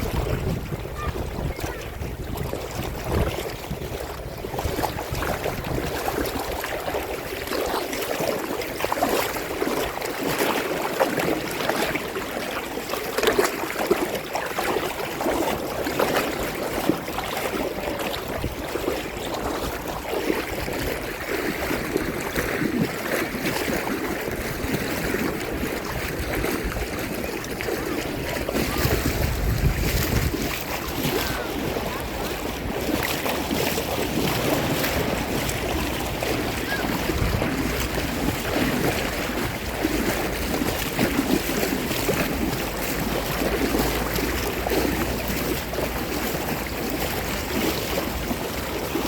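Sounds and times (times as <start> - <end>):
sea water lapping and splashing: 0.0 - 49.0.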